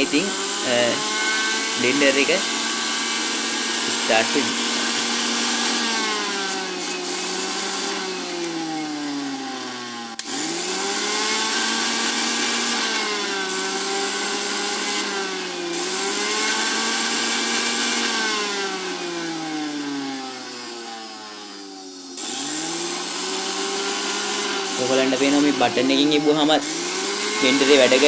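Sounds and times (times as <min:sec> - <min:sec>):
blender motor whining: 0:00.0 - 0:28.0.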